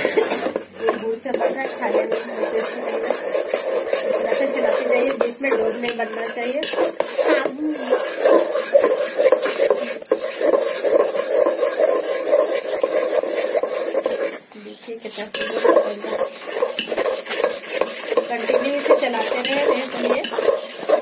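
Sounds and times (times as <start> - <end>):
metal spatula scraping a pot: 0.0 - 21.0.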